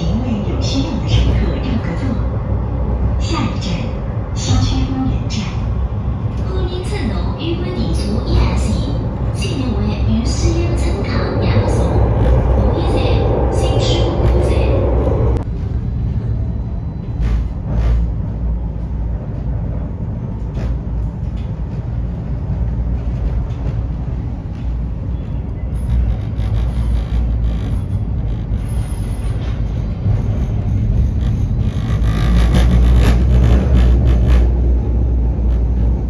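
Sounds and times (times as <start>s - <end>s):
vehicle running rumble: 0.0s - 36.0s.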